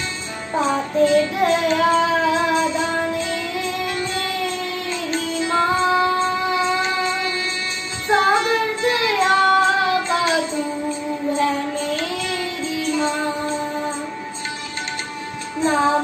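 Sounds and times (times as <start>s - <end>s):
boy singing a hymn: 0.5s - 14.1s, 15.6s - 16.0s.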